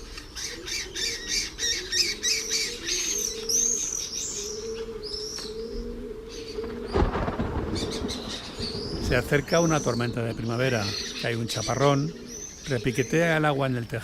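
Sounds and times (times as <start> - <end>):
kestrels chattering: 0.0 - 14.0
swifts screaming: 0.0 - 14.0.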